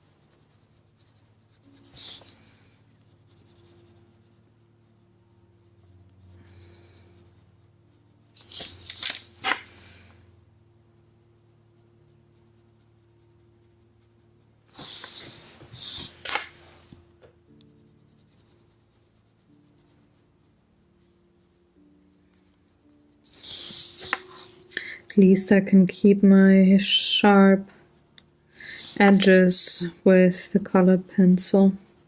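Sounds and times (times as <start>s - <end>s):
coloured pencil scratching on paper: 0.0s - 32.0s.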